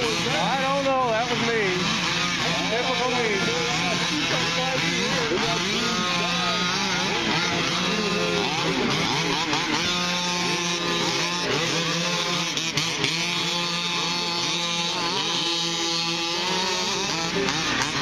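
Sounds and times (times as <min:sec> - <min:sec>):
small engines revving: 0:00.0 - 0:18.0.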